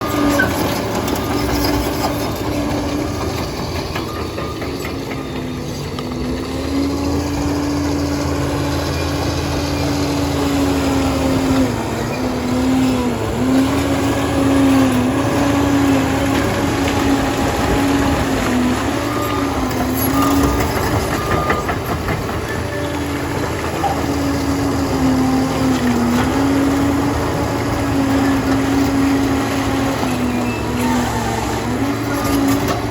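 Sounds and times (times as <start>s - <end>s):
bulldozer diesel engine droning: 0.0s - 32.9s.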